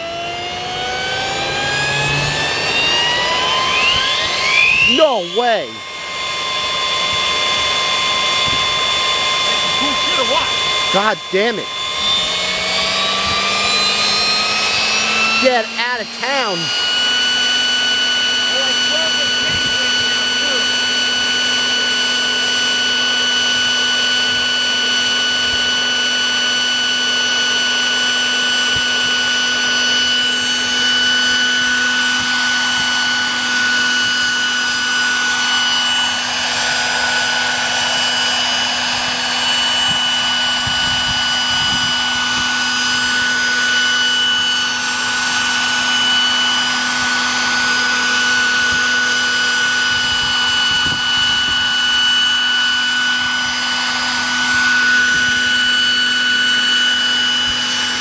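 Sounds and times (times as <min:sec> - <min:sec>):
model helicopter whine: 0:00.0 - 0:58.0
rotors whirring: 0:00.0 - 0:58.0.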